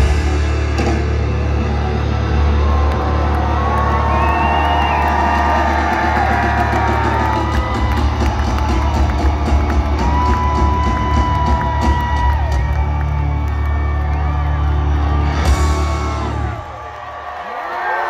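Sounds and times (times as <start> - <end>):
rock band playing live: 0.0 - 16.6
crowd cheering and whooping: 0.8 - 18.0.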